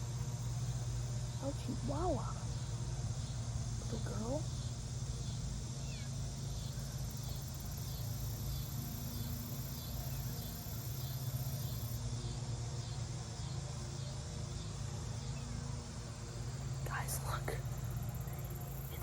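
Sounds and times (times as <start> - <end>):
insects chirping: 0.0 - 19.0
low steady hum: 0.0 - 19.0.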